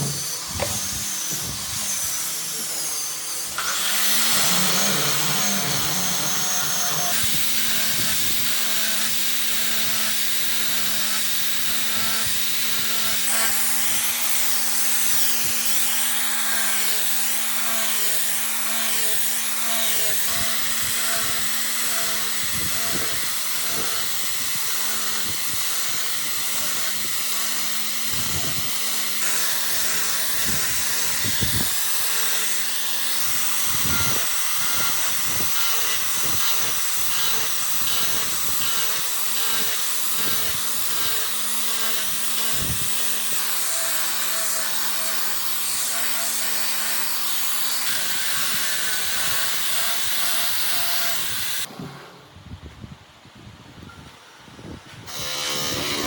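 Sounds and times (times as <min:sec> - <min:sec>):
power tool motor humming: 0:00.0 - 0:51.7, 0:55.1 - 0:56.0.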